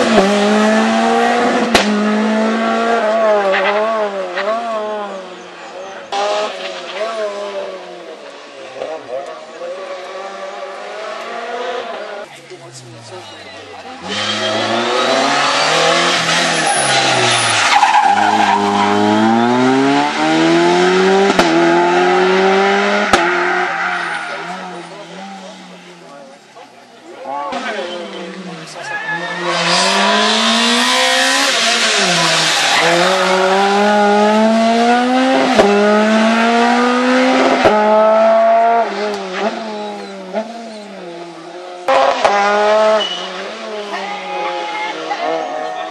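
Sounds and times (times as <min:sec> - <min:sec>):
rally car engine revving: 0:00.0 - 0:05.4, 0:06.0 - 0:26.4, 0:27.3 - 0:45.9.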